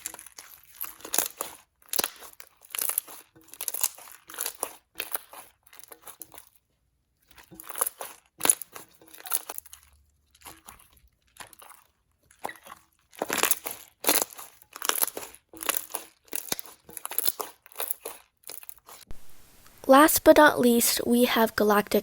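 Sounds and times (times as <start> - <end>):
slime squishing and popping: 0.0 - 6.6, 7.2 - 19.0.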